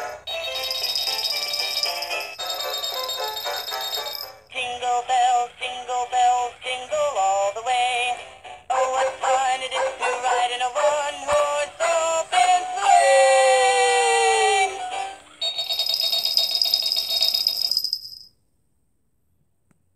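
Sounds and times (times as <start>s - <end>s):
toy playing sung tune with music: 0.0s - 13.1s, 13.7s - 17.7s.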